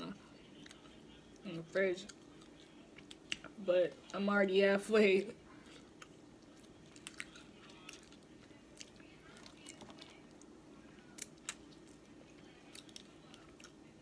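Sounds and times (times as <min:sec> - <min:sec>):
chewing seafood: 0:00.2 - 0:04.2, 0:05.4 - 0:14.0.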